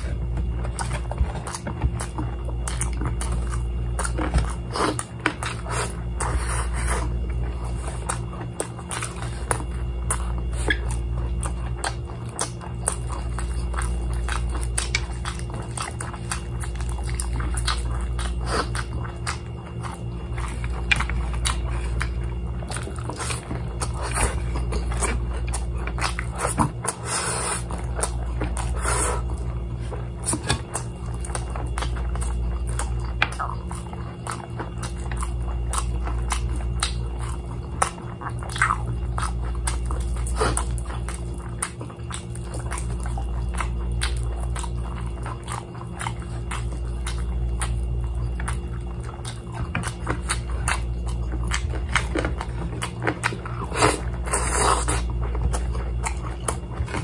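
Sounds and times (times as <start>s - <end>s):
chewing and lip smacks: 0.0s - 57.0s.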